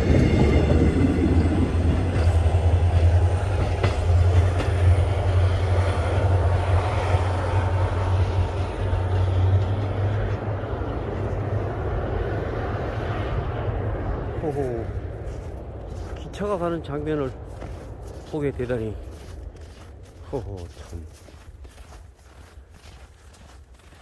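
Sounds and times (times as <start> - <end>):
train rumbling along rails: 0.0 - 24.0.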